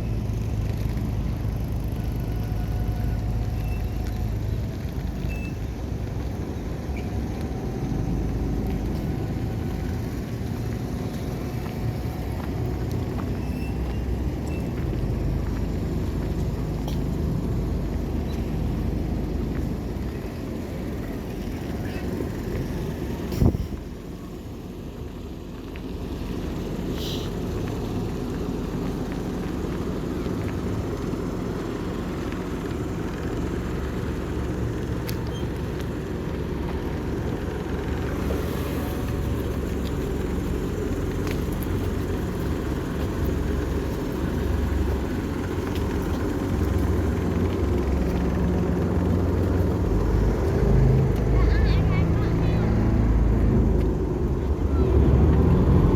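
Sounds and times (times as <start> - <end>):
engine rumbling: 0.0 - 55.9.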